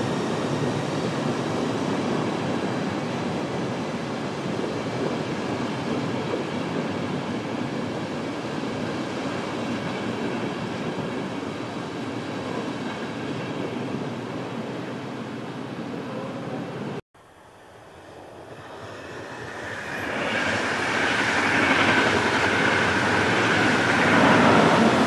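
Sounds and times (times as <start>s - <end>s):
train wheels on rails: 0.0s - 15.5s, 17.6s - 25.0s.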